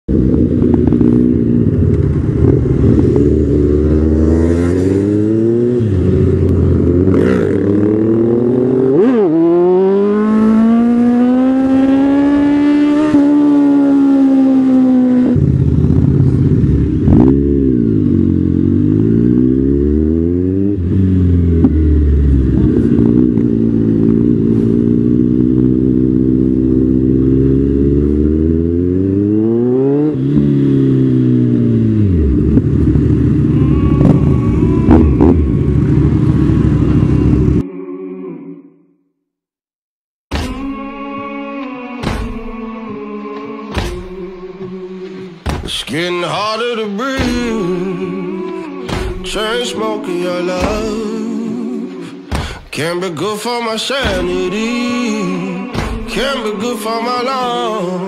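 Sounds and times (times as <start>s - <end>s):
motorcycle engine revving: 0.1s - 37.6s, 41.9s - 52.8s, 54.0s - 58.0s.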